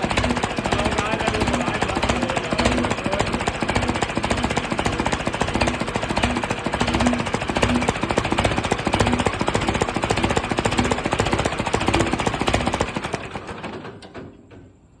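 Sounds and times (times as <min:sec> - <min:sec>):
tractor engine knocking: 0:00.0 - 0:15.0.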